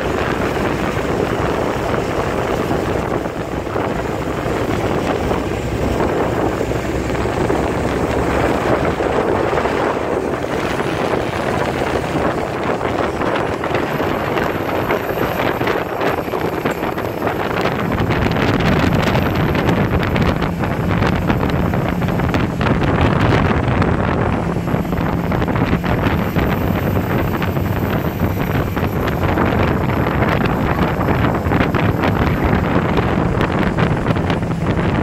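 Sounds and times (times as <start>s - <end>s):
boat engine running: 0.0s - 35.0s
churning boat wake: 0.0s - 35.0s
wind buffeting microphone: 0.0s - 35.0s.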